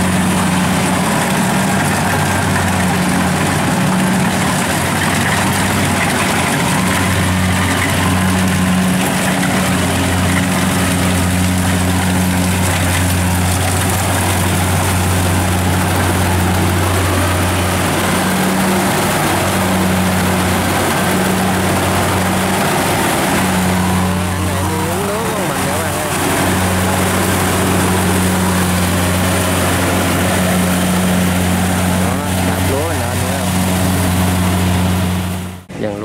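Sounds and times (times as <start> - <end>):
combine harvester engine hum: 0.0 - 36.0
wavering machinery drone: 0.0 - 36.0.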